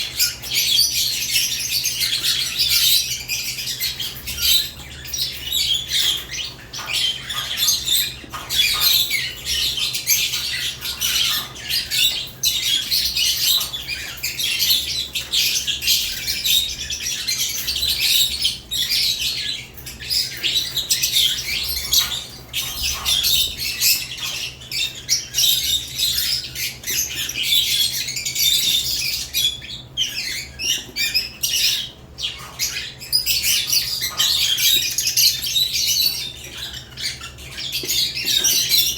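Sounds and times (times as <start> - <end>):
lovebirds chirping and squawking: 0.0 - 38.9.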